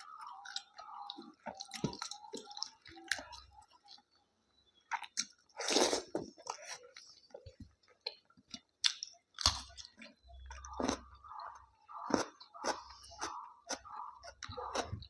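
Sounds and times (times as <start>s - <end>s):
person chewing food: 0.0s - 4.2s, 4.8s - 15.0s.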